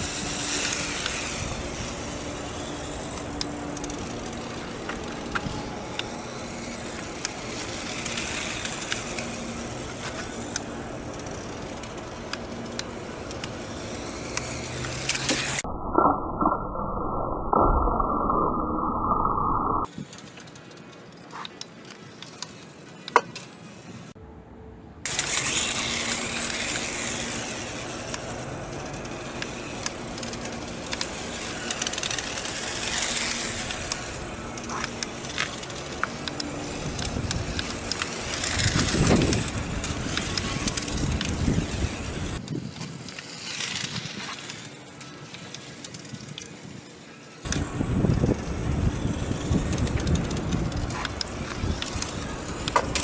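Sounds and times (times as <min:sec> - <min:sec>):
toy motorcycle electric motor hum: 0:00.0 - 0:15.6, 0:25.1 - 0:53.0.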